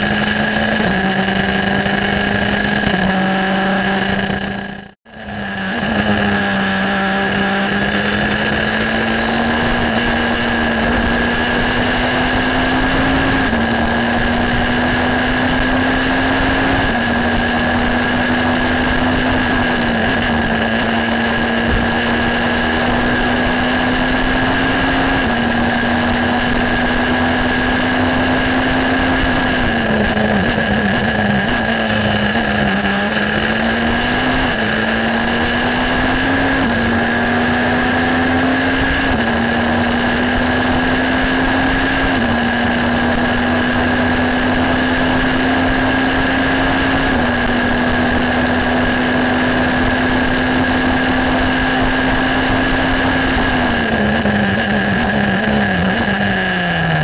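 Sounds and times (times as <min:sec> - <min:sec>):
race car engine at high speed: 0:00.0 - 0:57.0
wind and road noise: 0:00.0 - 0:57.0.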